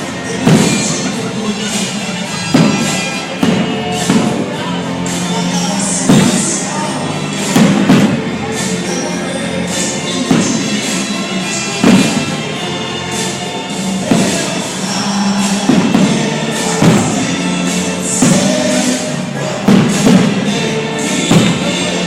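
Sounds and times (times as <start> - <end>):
fireworks bursting with sharp bangs: 0.0 - 9.0, 9.6 - 22.0
choral music: 0.0 - 22.0.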